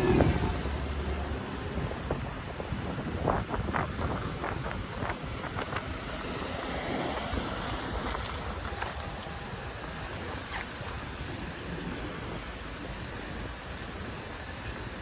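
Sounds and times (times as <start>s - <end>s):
distant traffic: 0.0s - 15.0s
wind buffeting microphone: 0.0s - 15.0s.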